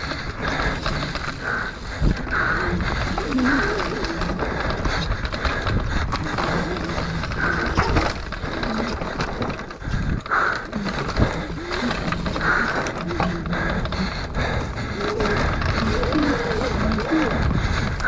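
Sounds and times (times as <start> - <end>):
bike knocking and rattling: 0.0 - 18.0
bike tyres rolling over stones: 0.0 - 18.0
wind noise: 0.0 - 18.0.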